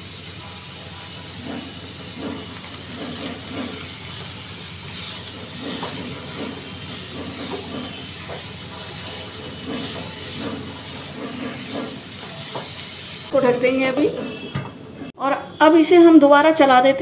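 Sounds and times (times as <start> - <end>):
vegetables frying: 0.0 - 14.1
spatula scraping pan: 1.3 - 15.2.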